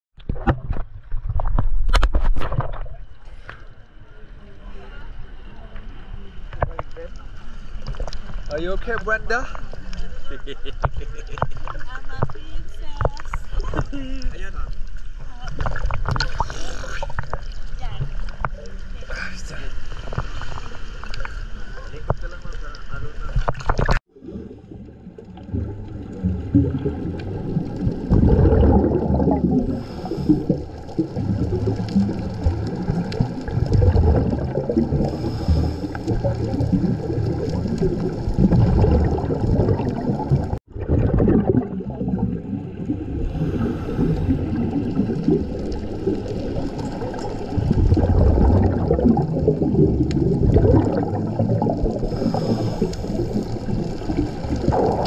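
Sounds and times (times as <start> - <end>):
underwater rushing and gurgling: 0.2 - 55.0.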